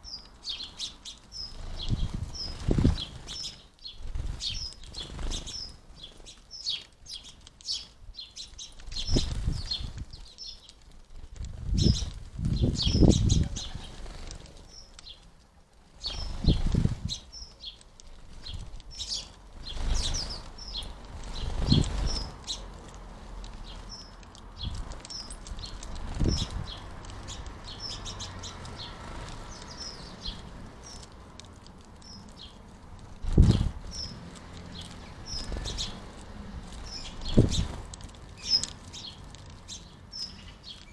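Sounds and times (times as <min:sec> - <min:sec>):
sparrows chirping: 0:00.0 - 0:40.9
wings flapping: 0:01.3 - 0:07.4, 0:08.4 - 0:15.1, 0:15.8 - 0:39.8.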